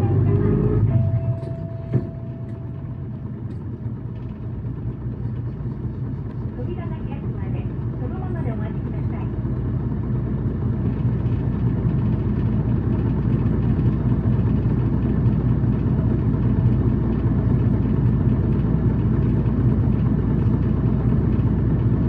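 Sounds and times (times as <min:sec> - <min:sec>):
bus engine hum: 0:00.0 - 0:22.0
road noise: 0:00.0 - 0:22.0.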